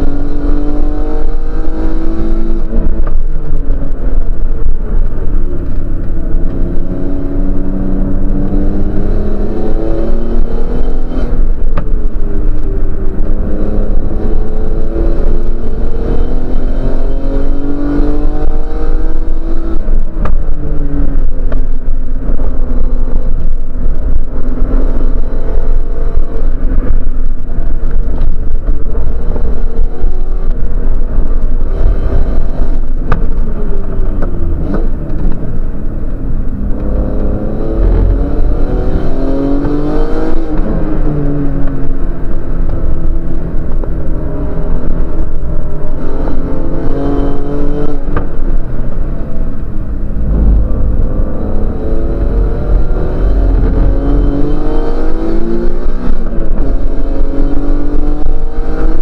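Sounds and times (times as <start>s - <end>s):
race car engine rumbling: 0.0s - 59.0s.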